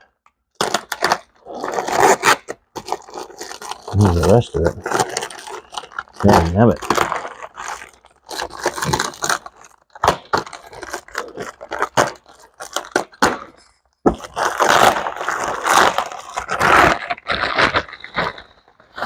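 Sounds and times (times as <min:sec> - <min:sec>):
packaging wrap crinkling: 0:00.6 - 0:13.5, 0:14.1 - 0:19.0
tape tearing: 0:00.6 - 0:19.0.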